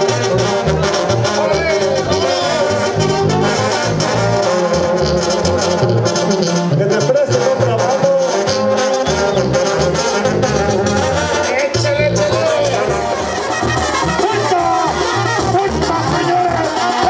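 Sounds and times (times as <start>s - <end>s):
brass band music: 0.0s - 17.0s
steady bass beat: 0.0s - 17.0s.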